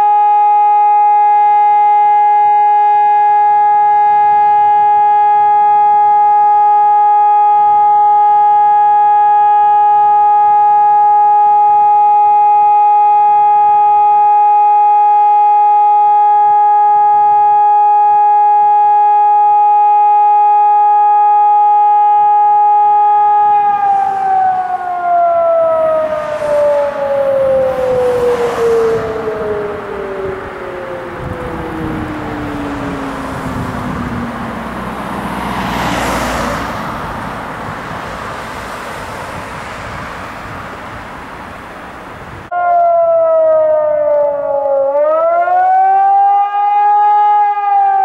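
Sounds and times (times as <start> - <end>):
warning sirens steady tone: 0.0 - 48.0.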